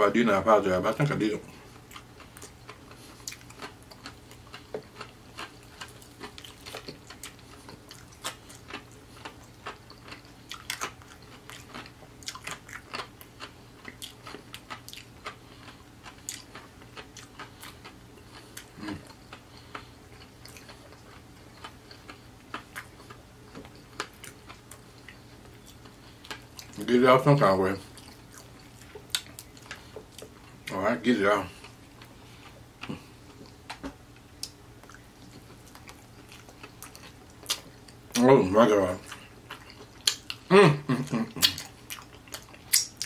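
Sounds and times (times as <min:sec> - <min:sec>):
steady low hum: 0:00.0 - 0:43.0
chewing with wet mouth clicks: 0:01.7 - 0:26.9, 0:27.8 - 0:30.7, 0:31.5 - 0:38.2, 0:39.0 - 0:40.5, 0:41.1 - 0:43.0.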